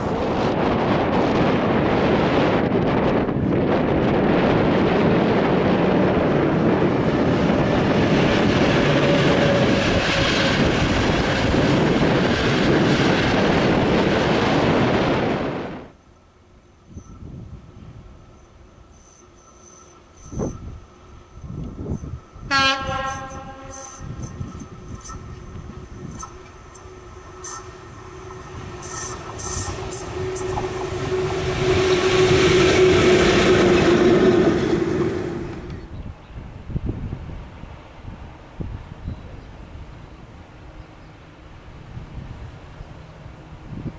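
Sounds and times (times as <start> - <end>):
electric locomotive hum: 0.0 - 43.9
passenger train passing on rails: 0.0 - 43.9.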